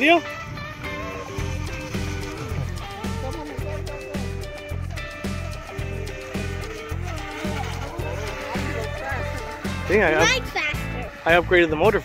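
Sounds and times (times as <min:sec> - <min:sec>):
background music with pulsing bass: 0:00.0 - 0:12.0.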